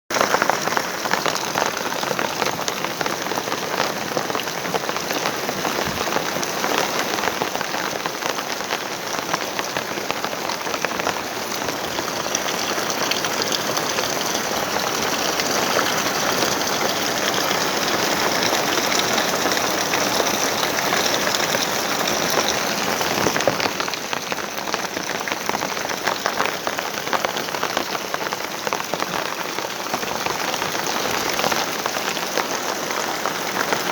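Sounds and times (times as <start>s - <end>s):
rain falling steadily: 0.1s - 33.9s.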